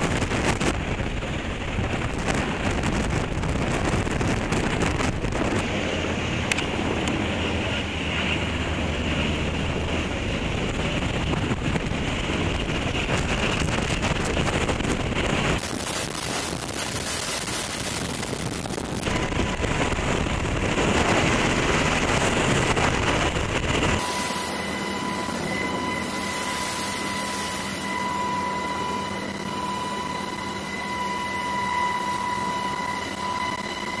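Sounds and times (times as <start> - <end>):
heavy rush of wind: 0.0 - 34.0
helicopter rotor noise: 0.0 - 34.0
high turbine whine: 0.0 - 34.0.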